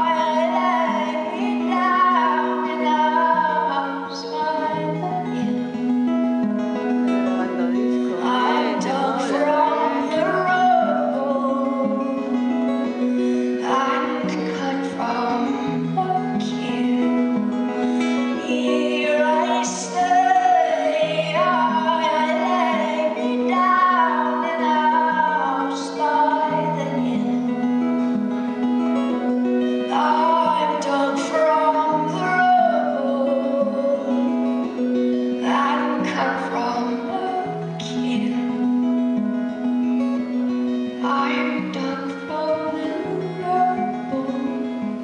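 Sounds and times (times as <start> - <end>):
woman singing: 0.0 - 5.9, 6.7 - 39.3, 40.7 - 45.0
picked acoustic guitar: 0.0 - 45.0.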